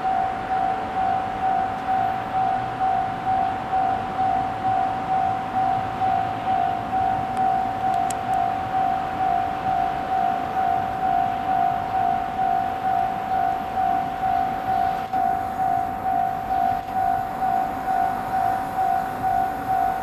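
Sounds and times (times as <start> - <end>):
level-crossing warning bell: 0.0 - 20.0.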